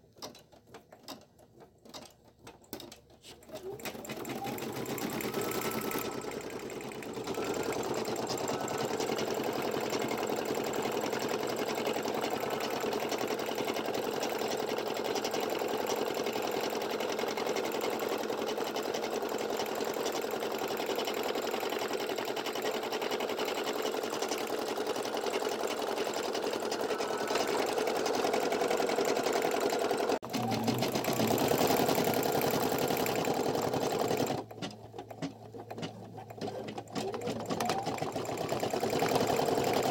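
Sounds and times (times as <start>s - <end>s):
embroidery machine stitching: 0.2s - 39.9s.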